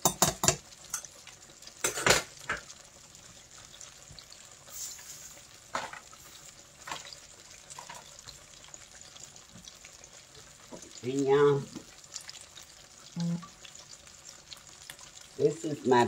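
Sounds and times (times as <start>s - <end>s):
oil bubbling and sizzling: 0.0s - 16.0s.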